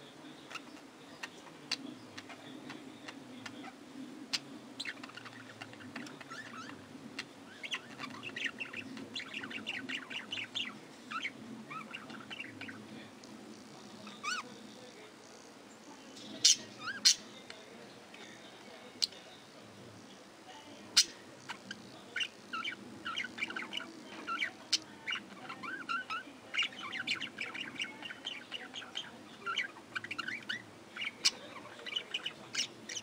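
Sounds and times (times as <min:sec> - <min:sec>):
budgerigars chirping and chattering: 0:00.3 - 0:12.9, 0:13.6 - 0:14.9, 0:16.2 - 0:19.3, 0:20.8 - 0:33.0.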